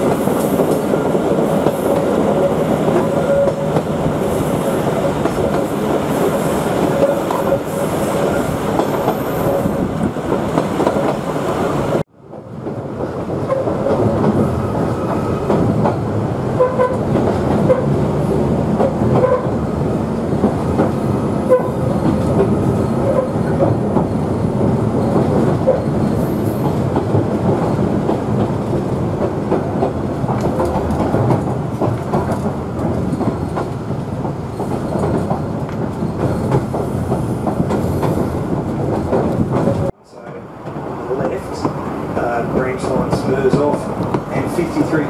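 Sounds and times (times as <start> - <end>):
train engine and wheels rumbling: 0.0 - 45.0
rail-joint clicks: 4.8 - 11.7, 12.3 - 18.0, 18.7 - 19.6, 20.2 - 45.0.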